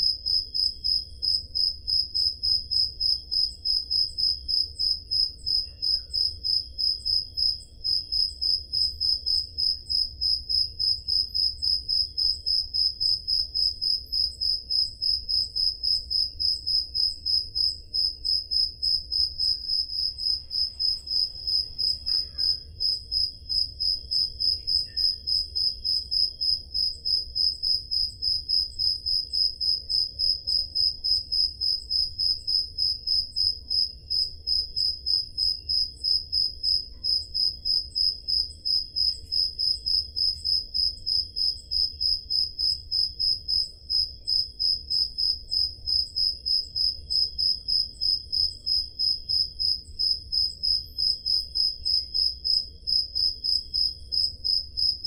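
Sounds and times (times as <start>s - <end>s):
faint crickets chirping: 0.0s - 55.0s
loud cricket chirping: 0.0s - 55.0s.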